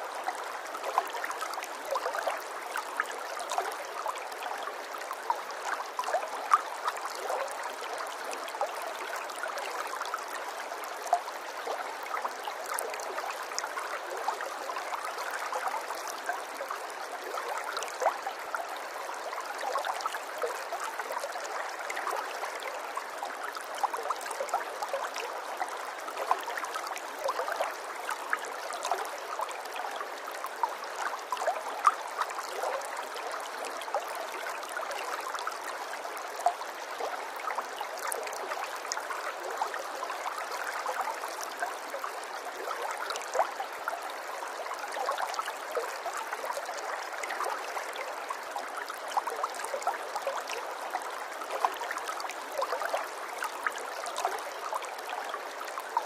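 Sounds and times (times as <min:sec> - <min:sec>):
water trickling and gurgling: 0:00.0 - 0:56.0.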